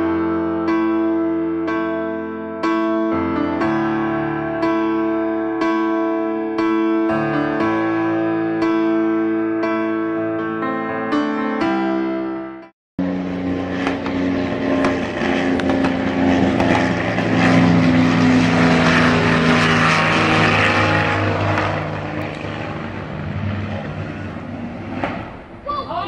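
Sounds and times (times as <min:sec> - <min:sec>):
propeller airplane droning overhead: 0:00.0 - 0:12.4, 0:13.0 - 0:26.0.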